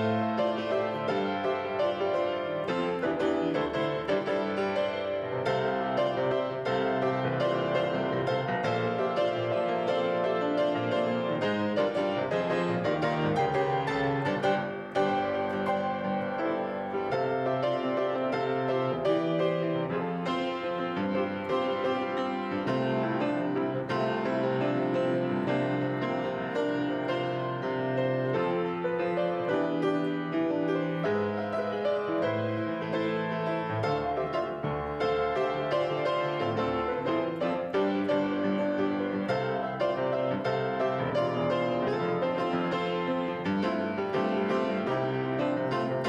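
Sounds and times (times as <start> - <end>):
solo grand piano: 0.0 - 46.0.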